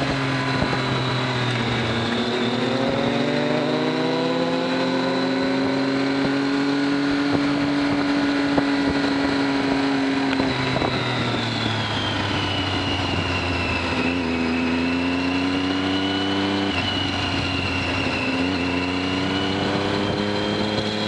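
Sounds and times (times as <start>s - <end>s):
motorcycle engine running: 0.0s - 21.0s
wind rush: 0.0s - 21.0s.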